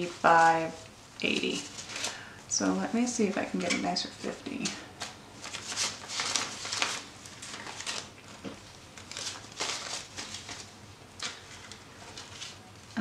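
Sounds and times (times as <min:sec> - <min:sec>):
banknotes rustling: 0:00.0 - 0:13.0.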